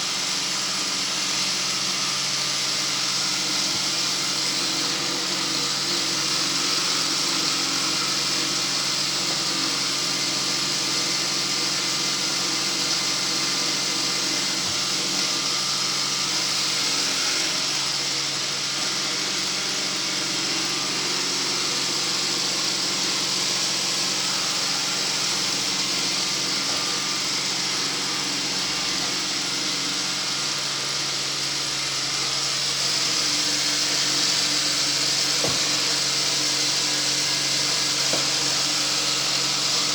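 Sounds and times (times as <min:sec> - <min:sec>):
sweeping machine motor hum: 0:00.0 - 0:39.9.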